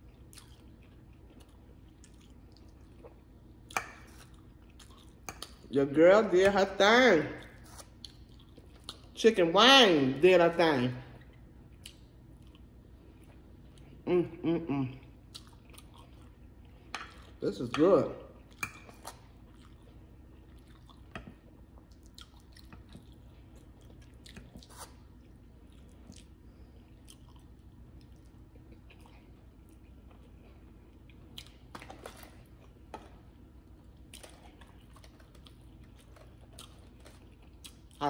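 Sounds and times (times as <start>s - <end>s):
faint chewing: 0.0s - 5.7s, 7.4s - 9.2s, 11.2s - 14.0s, 15.0s - 17.4s, 18.4s - 38.0s.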